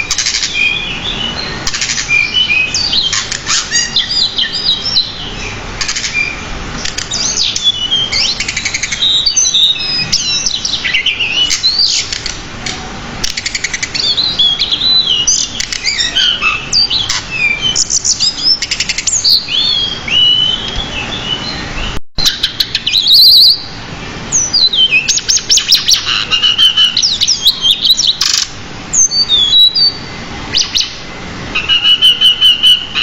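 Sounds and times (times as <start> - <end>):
bird singing varied song: 0.0 - 12.4, 13.2 - 33.0.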